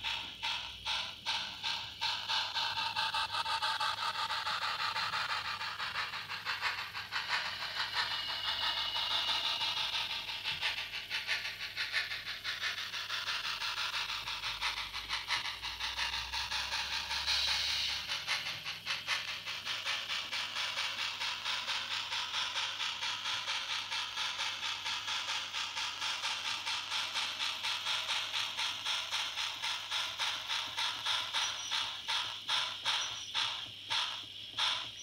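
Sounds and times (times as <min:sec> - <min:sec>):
model steam exhaust chuffs: 0:00.0 - 0:35.0.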